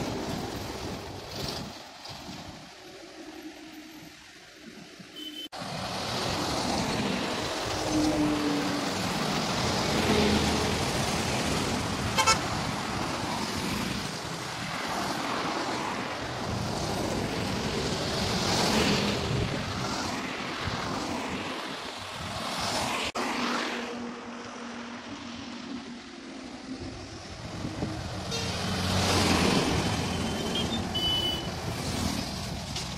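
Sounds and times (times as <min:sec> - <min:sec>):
vehicles passing on highway: 0:00.0 - 0:32.9.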